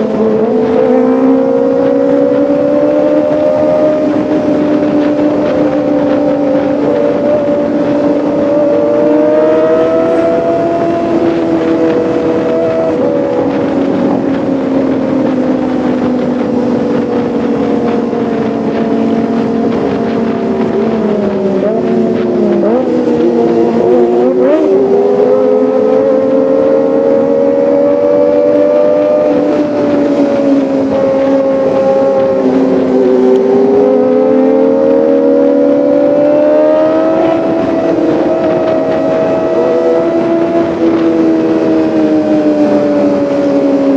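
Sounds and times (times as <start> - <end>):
motorcycle engine revving high: 0.0 - 43.9.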